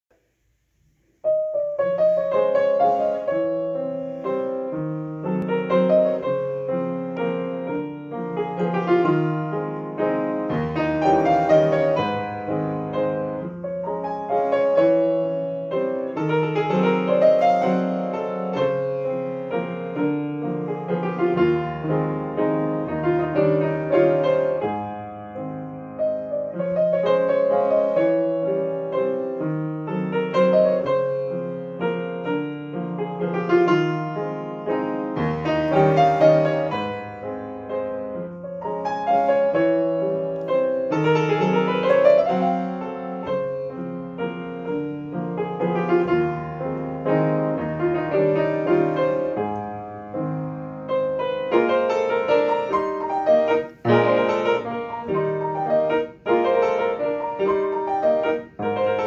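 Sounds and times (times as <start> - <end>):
upright piano playing a waltz: 1.3 - 59.0.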